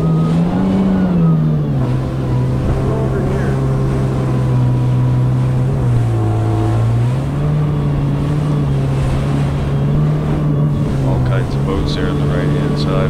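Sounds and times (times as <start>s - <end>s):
jet ski engine running: 0.0s - 13.0s
water rushing and splashing: 0.0s - 13.0s.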